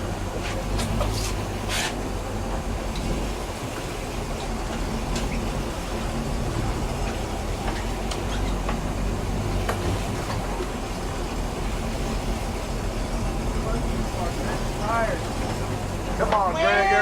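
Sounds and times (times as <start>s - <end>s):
boat engine rumbling: 0.0s - 17.0s
water noise: 0.0s - 17.0s
wind: 0.0s - 17.0s.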